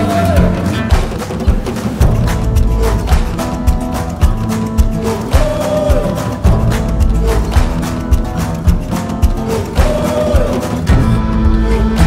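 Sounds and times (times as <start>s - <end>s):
drum beat: 0.0s - 12.0s.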